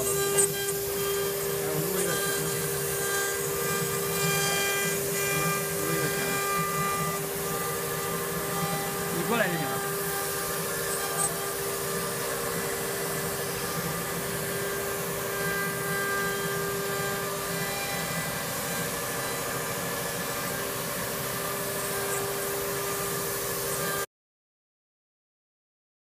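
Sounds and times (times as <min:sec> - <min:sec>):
router cutting wood: 0:00.0 - 0:24.1
router spindle whine: 0:00.0 - 0:24.1.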